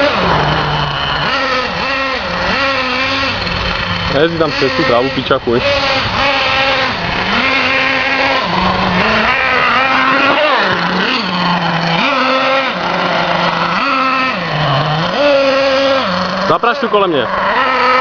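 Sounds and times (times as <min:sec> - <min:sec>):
moped engine revving: 0:00.0 - 0:18.0.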